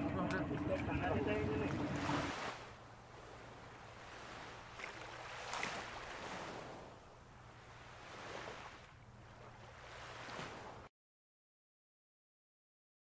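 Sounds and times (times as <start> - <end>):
rushing wind: 0.0 - 10.8
sea noise: 0.0 - 10.9.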